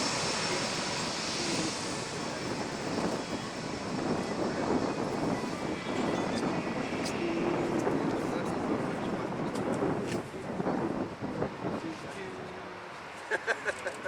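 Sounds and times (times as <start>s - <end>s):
airliner engines rushing: 0.0s - 14.0s.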